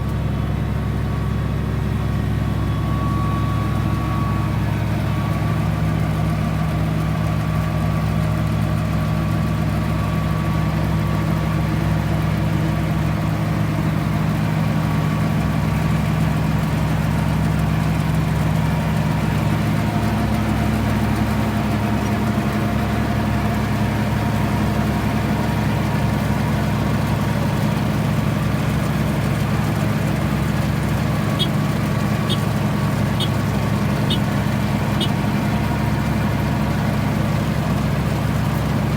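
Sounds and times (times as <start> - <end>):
farm machine engine running: 0.0 - 38.9.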